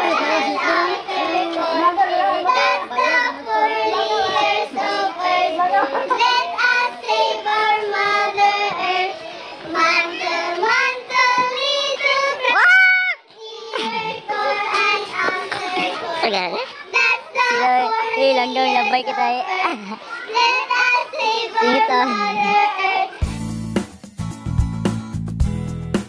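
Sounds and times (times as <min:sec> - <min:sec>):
girls singing together: 0:00.0 - 0:23.3.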